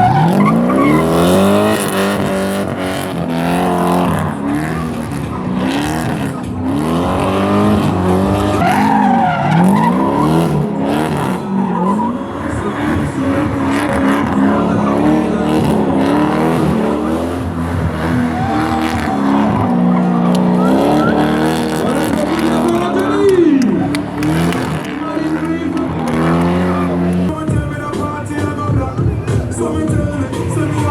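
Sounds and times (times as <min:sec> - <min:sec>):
tyre squeal: 0:00.0 - 0:05.5, 0:07.1 - 0:30.9
car engine revving: 0:00.0 - 0:30.9.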